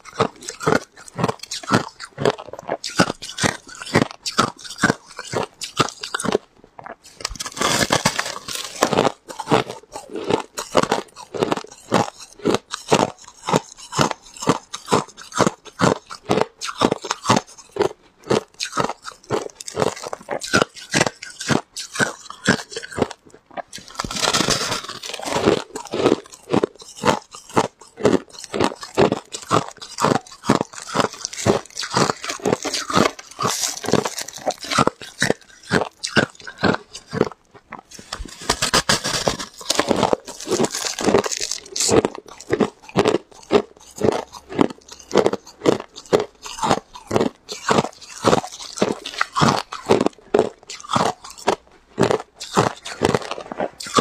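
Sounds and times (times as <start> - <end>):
chewing crushed ice crunches: 0.0 - 54.0.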